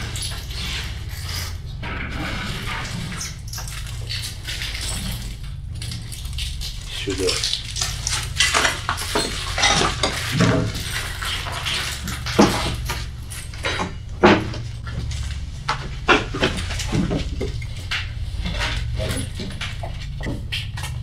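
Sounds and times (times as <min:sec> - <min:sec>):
low hum: 0:00.0 - 0:21.0
wooden knocks and clatter: 0:00.0 - 0:21.0
footsteps on debris: 0:03.3 - 0:21.0.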